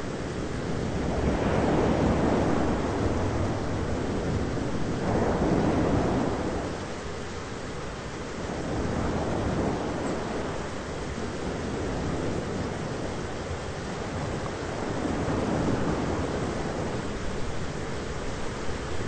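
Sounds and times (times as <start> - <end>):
thunderstorm rush: 0.0 - 19.0.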